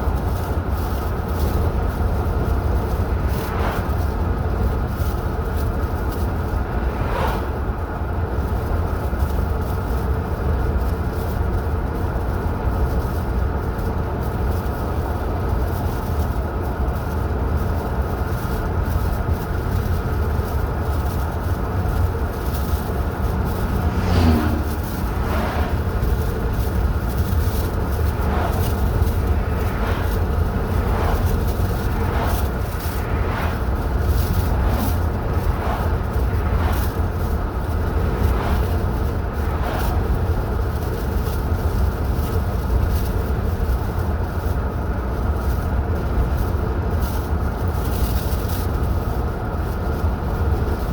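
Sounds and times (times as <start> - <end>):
road and engine rumble: 0.0 - 50.9.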